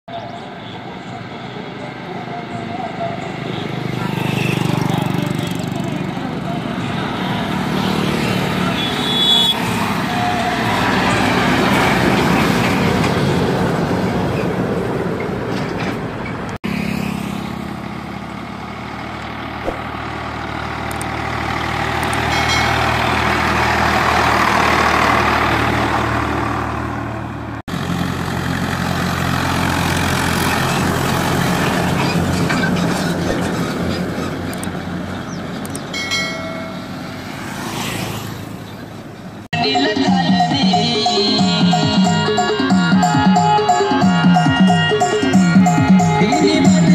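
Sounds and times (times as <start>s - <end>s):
diesel tractor engines under load: 0.2s - 46.9s.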